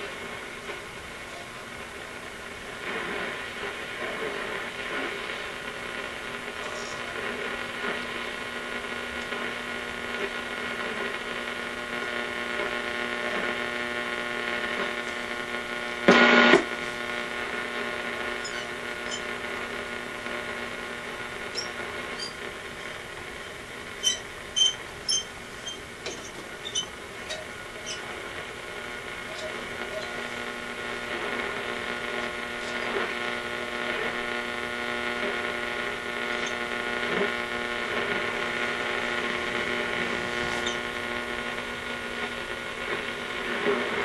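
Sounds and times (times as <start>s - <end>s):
loud burst of radio noise: 0.0s - 44.0s
radio hum and hiss: 0.0s - 44.0s
steady radio tones: 0.0s - 44.0s.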